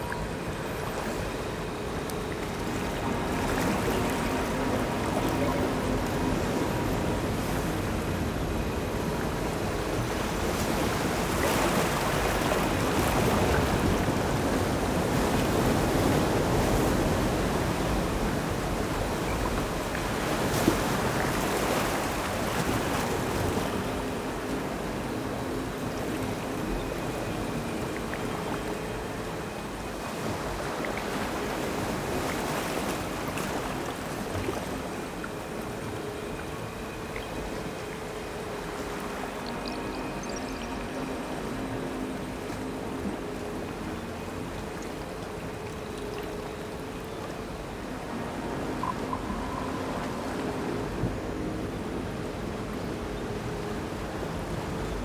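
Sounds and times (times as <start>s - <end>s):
ambient electronic noise music: 0.0s - 55.0s
faint steady tones: 0.0s - 55.0s.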